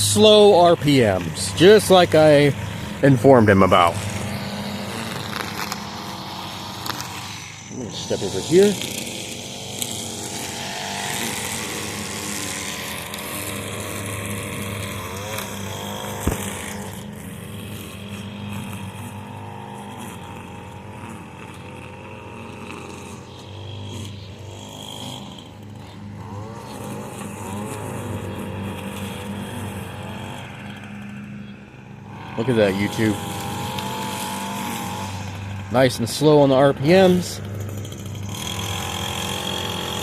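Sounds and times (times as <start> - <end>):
riding lawn mower engine: 0.0 - 40.0
string trimmer running: 0.0 - 40.0.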